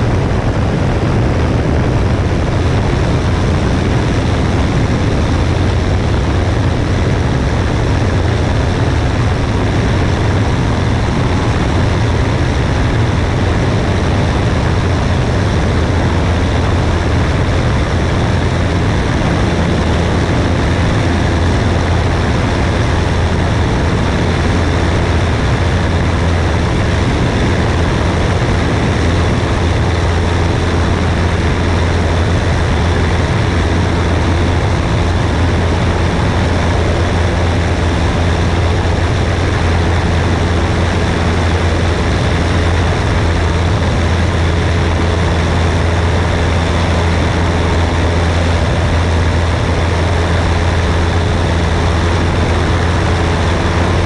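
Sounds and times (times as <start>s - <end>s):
airplane engine drone: 0.0s - 54.0s
wind rushing over microphone: 0.0s - 54.0s.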